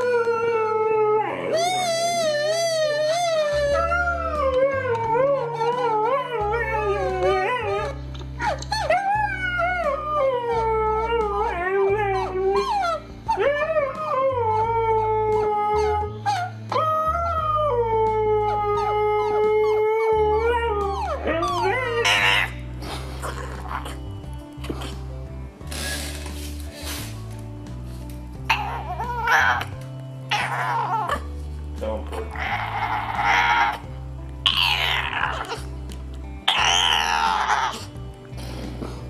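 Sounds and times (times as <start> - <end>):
dog howling: 0.0 - 24.1, 28.4 - 31.3, 32.1 - 35.7, 36.4 - 38.0
music with steady bass line: 0.0 - 39.0.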